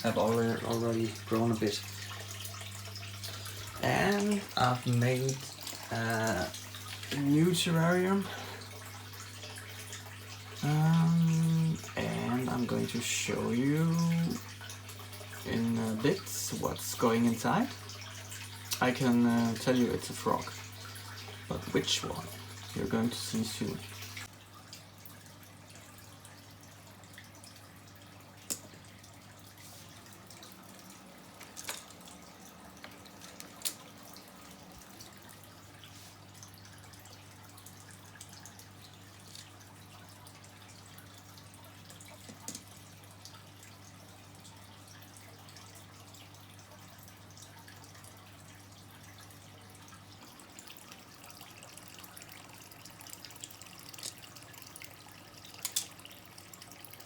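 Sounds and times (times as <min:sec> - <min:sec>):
water dripping and trickling: 0:00.0 - 0:57.0.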